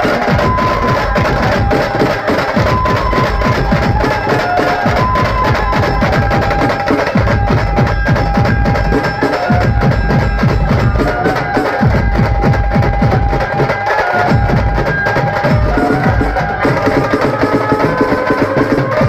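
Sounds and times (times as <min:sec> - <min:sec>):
fast dense drumming: 0:00.0 - 0:19.0.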